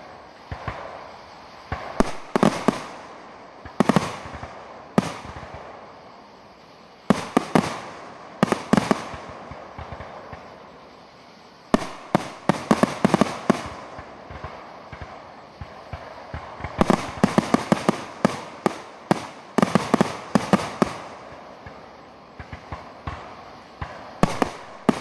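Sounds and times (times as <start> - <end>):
firework shells bursting: 0.0 - 25.0.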